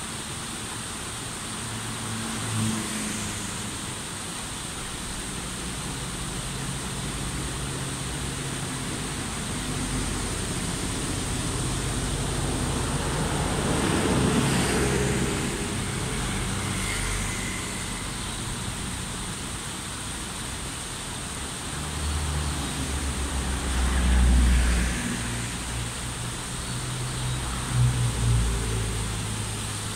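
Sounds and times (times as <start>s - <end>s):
road traffic rumble: 0.0s - 29.9s
stream water rushing over rock: 0.0s - 29.9s.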